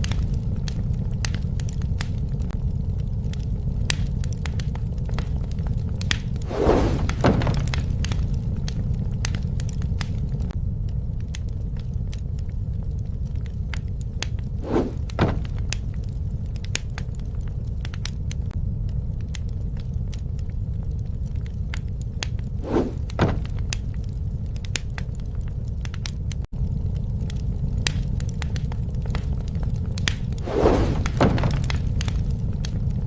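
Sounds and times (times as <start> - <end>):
burning wood crackling: 0.0 - 33.0
campfire flames rumbling: 0.0 - 33.0.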